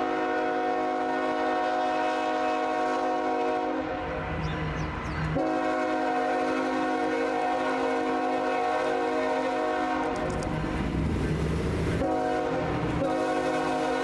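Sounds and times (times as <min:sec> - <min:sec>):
locomotive air horn chord: 0:00.0 - 0:11.2, 0:11.8 - 0:14.0
passing train rumble: 0:00.0 - 0:14.0.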